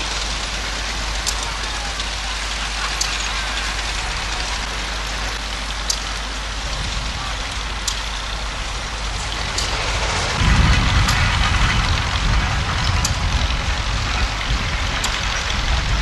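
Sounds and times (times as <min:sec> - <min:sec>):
old engines humming: 0:00.0 - 0:16.0
truck engine rumble: 0:00.0 - 0:16.0.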